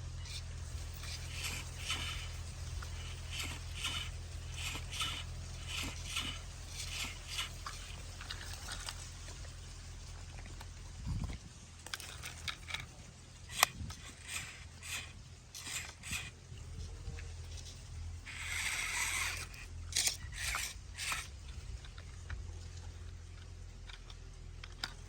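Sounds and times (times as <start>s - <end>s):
low steady motor hum: 0.0s - 25.0s
soil scraping and crunching: 0.0s - 25.0s
toy tractor clicks: 0.2s - 9.1s, 11.8s - 16.4s, 18.2s - 25.0s.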